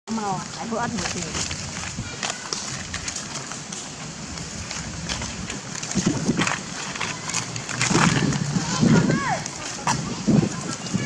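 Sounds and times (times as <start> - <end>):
faint clicks and rustles: 0.1 - 11.0
outdoor background hiss: 0.1 - 11.0.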